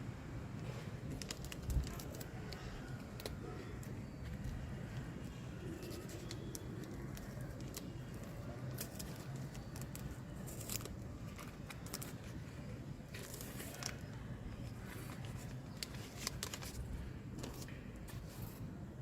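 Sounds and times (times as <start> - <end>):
paper packaging rustling: 1.0 - 18.8.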